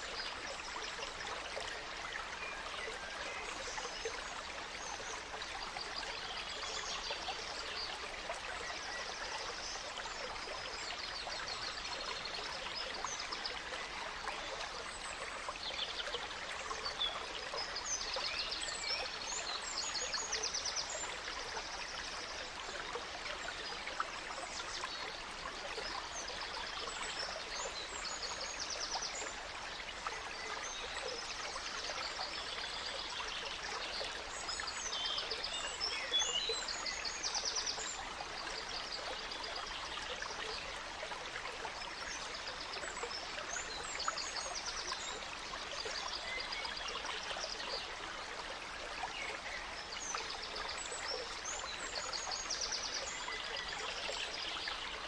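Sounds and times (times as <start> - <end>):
gentle stream running: 0.0 - 55.0.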